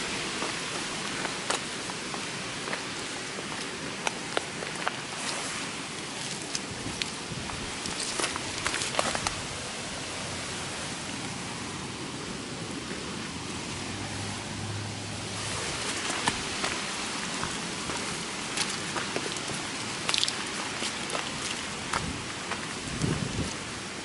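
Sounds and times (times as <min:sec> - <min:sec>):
heavy rain hiss: 0:00.0 - 0:24.0.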